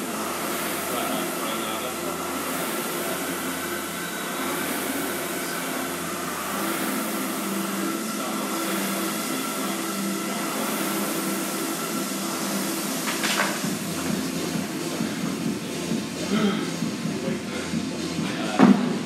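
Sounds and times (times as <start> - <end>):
rowing machine flywheel whirring: 0.0 - 19.0.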